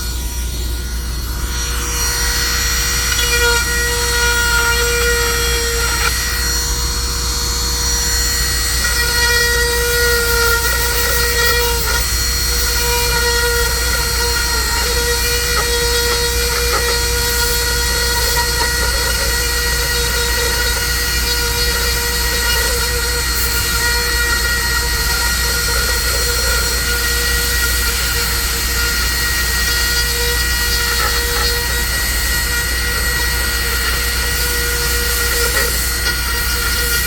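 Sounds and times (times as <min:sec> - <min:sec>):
rotary tool whining: 0:00.0 - 0:37.0.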